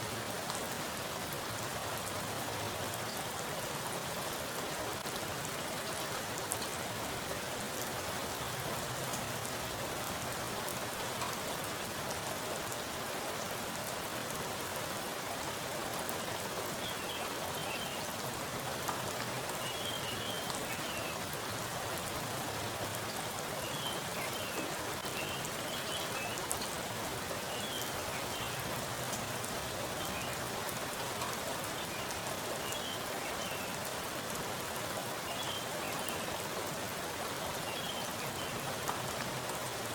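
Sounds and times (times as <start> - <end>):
heavy rain on standing water: 0.0 - 39.9.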